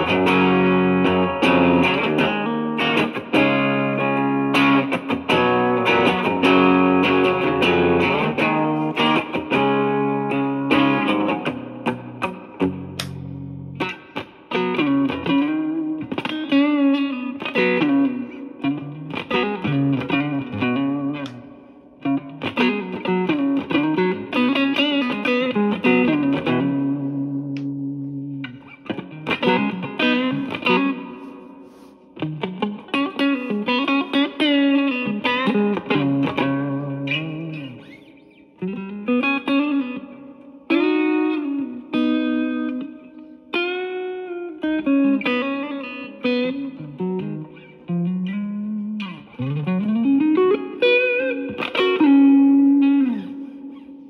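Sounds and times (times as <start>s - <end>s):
electric guitar lead with bends: 0.0s - 54.0s.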